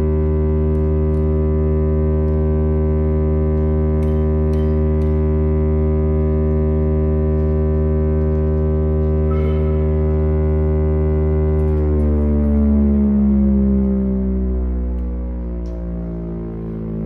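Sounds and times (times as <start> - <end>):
air raid siren: 0.0 - 17.0.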